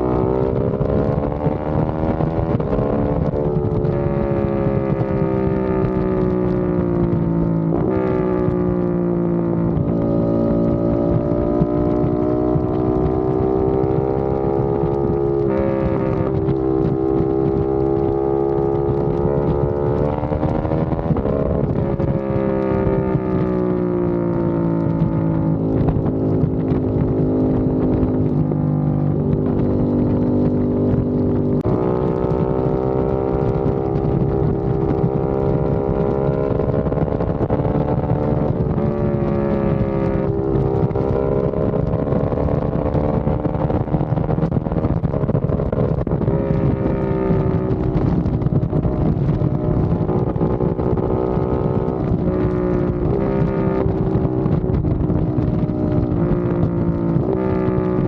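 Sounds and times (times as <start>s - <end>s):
gear change: 0.0s - 58.0s
motorcycle engine revving: 0.0s - 58.0s.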